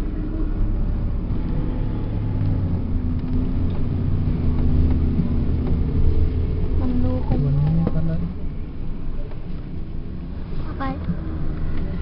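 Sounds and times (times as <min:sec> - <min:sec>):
car engine hum from cabin: 0:00.0 - 0:12.0.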